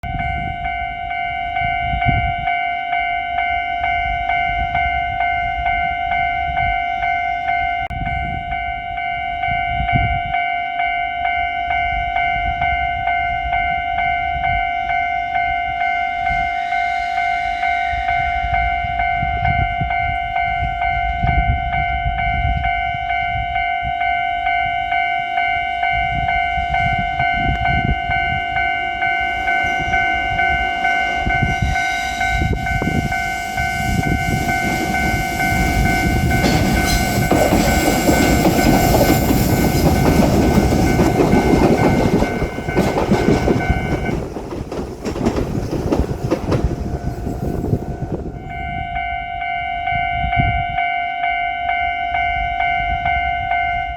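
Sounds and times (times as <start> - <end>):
level crossing warning bell: 0.0 - 53.9
train rumble: 0.0 - 53.9.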